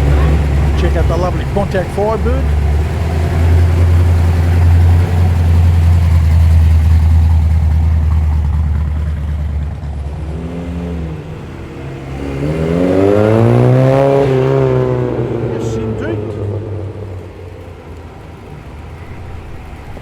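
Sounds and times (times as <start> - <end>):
car engine deep rumble: 0.0 - 20.0
engine revving: 0.0 - 20.0.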